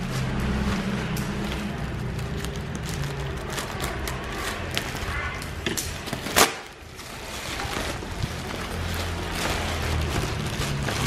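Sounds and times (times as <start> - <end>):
plastic wrapping crinkling: 0.0 - 11.0
scissors cutting plastic: 0.0 - 11.0.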